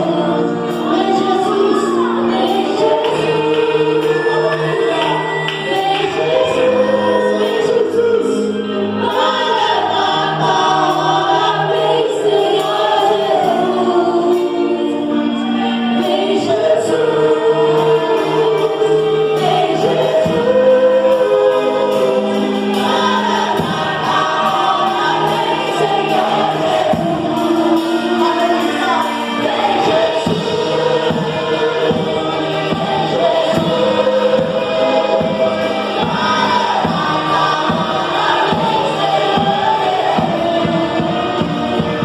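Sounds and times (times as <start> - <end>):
band accompaniment: 0.0 - 42.0
choir singing gospel: 0.0 - 42.0.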